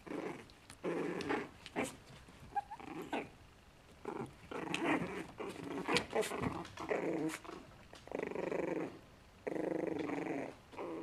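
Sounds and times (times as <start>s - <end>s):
puppies growling: 0.0s - 11.0s.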